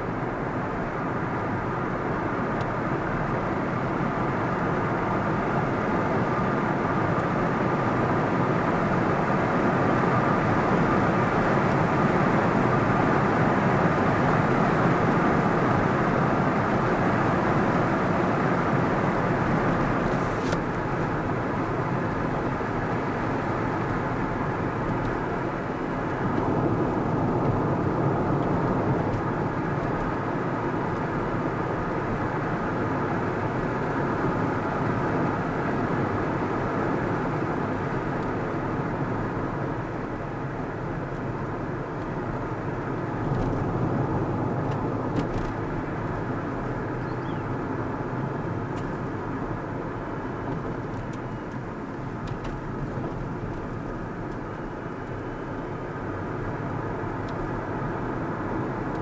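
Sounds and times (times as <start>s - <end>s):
car driving along road: 0.0s - 59.0s.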